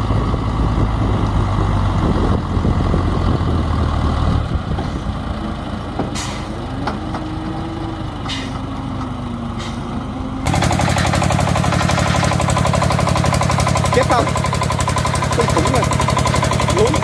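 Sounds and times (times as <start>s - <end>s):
diesel tractor engine chugging: 0.0s - 17.0s.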